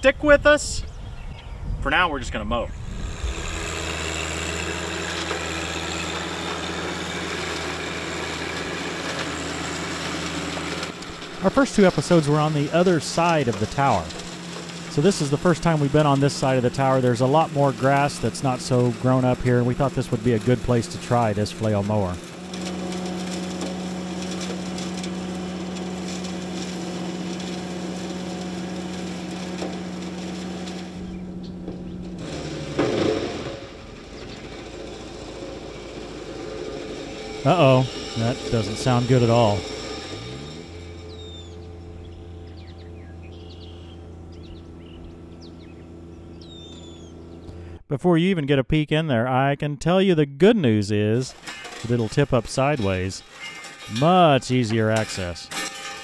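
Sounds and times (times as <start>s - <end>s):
tractor diesel engine running: 2.7s - 47.9s, 51.1s - 56.0s
flail mower: 2.8s - 47.8s, 51.2s - 56.0s.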